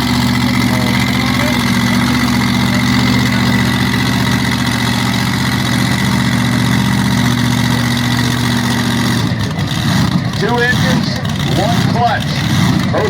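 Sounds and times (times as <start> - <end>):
tractor engines idling: 0.0 - 13.0.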